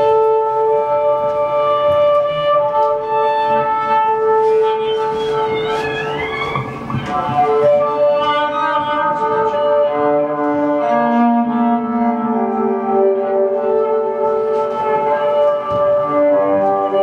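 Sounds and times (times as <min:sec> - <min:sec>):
wind instruments held notes: 0:00.0 - 0:17.0.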